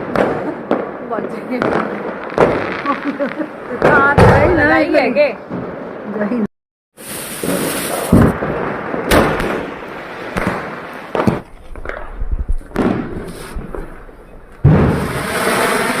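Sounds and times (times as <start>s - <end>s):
firecrackers banging: 0.0s - 6.4s, 7.0s - 16.0s.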